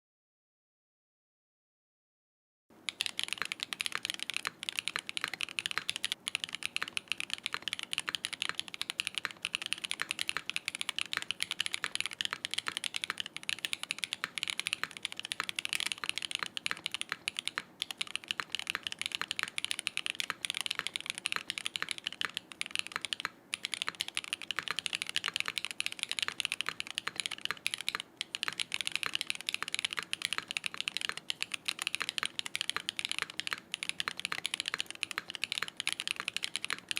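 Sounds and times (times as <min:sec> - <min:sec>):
fast mechanical keyboard typing: 0:02.9 - 0:36.9.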